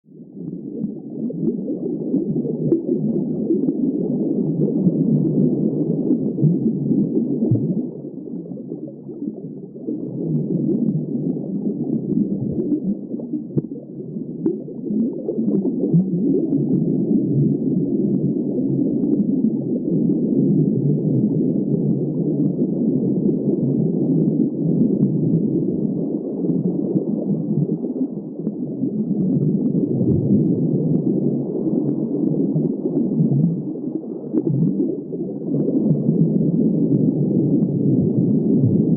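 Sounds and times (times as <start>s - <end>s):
muffled underwater rushing: 0.1s - 38.9s.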